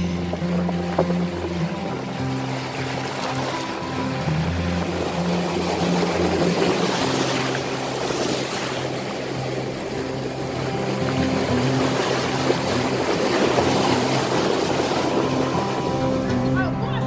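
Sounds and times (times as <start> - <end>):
surf washing over rocks: 0.0 - 16.6.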